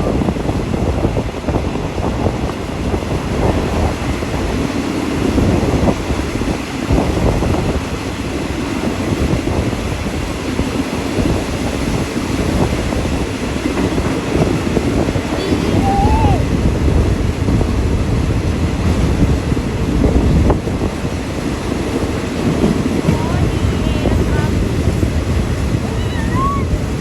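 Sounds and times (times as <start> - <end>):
train rumbling: 0.0 - 27.0
wheels clattering on rails: 0.0 - 27.0.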